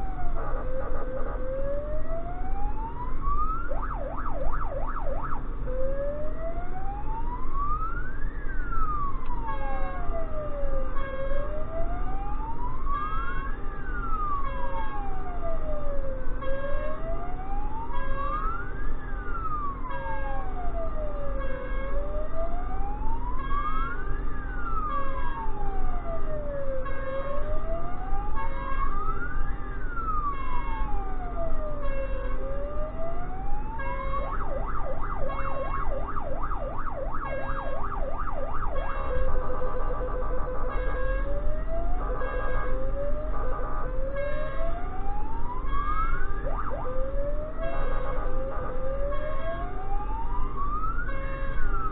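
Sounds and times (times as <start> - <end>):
electronic siren wailing: 0.0 - 51.9.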